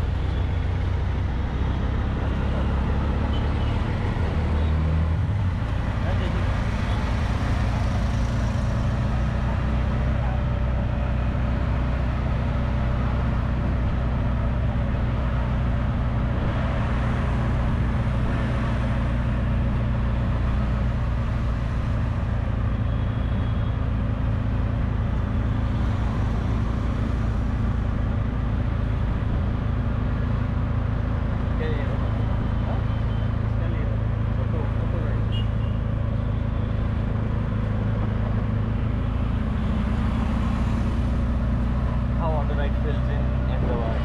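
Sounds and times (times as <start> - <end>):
road and traffic noise: 0.0 - 44.0.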